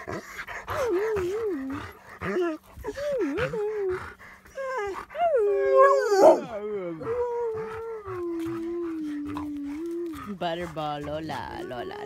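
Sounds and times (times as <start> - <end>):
dog whining and howling: 0.0 - 12.0.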